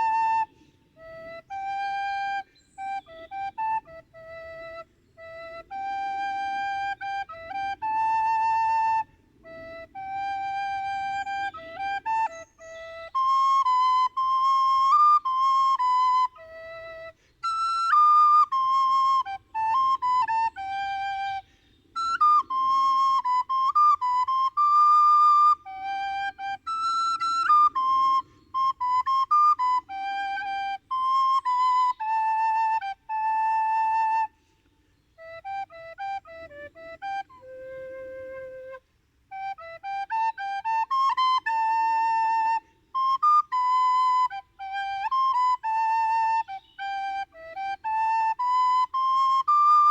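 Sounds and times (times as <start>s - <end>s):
flute-like melody: 0.0s - 49.9s.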